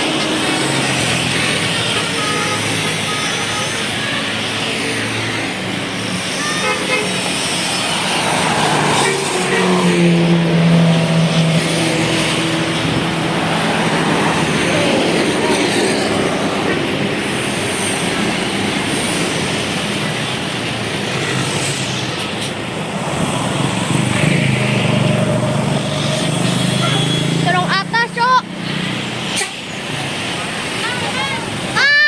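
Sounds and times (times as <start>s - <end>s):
heavy vehicle passing: 0.0s - 31.8s
road traffic noise: 0.0s - 32.0s.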